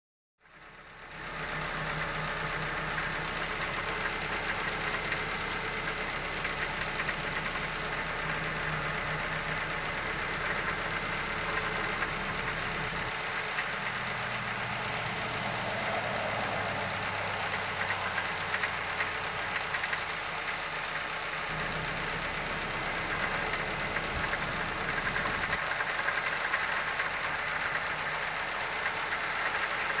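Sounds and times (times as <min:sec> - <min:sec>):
car engine idling: 0:00.5 - 0:30.0.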